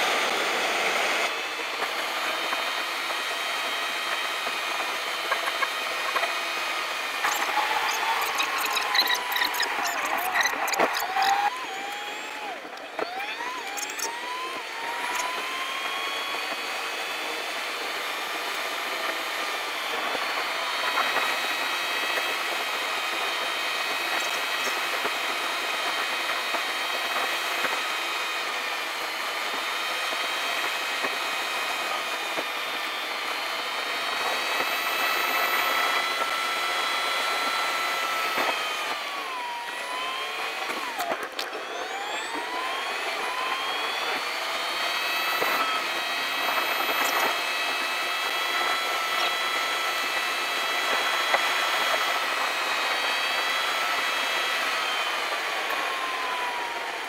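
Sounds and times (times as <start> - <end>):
sped-up car engine whine: 0.0 - 57.0.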